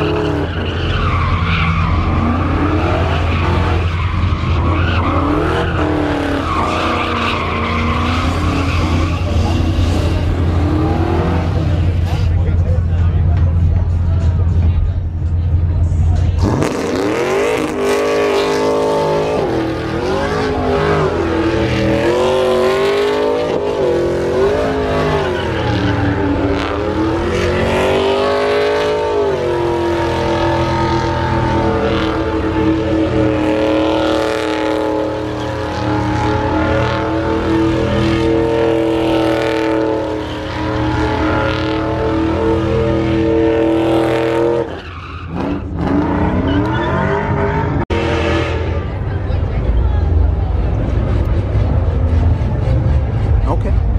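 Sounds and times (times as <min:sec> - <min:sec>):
truck engine revving: 0:00.0 - 0:53.9.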